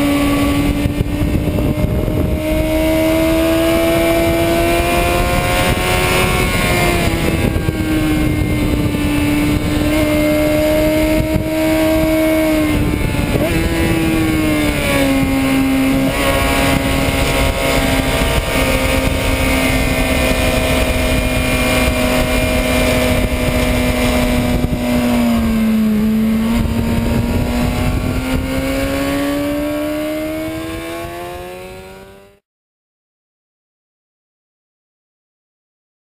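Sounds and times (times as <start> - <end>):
wind rushing: 0.0 - 32.2
motorcycle engine at speed: 0.0 - 32.4.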